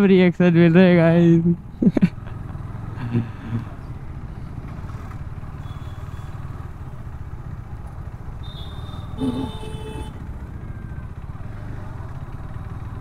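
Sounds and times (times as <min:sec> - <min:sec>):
motorcycle engine low rumble: 0:00.0 - 0:13.0.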